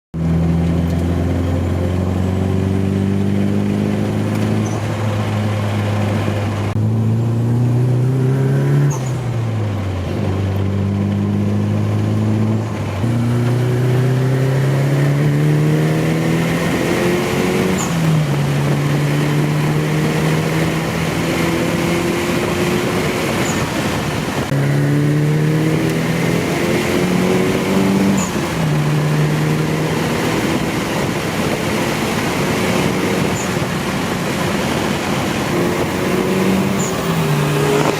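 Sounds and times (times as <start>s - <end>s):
car engines accelerating hard: 0.2s - 37.9s.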